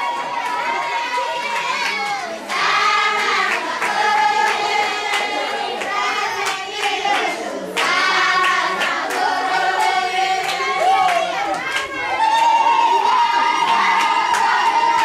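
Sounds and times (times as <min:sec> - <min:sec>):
group singing call-and-response song: 0:00.0 - 0:15.0.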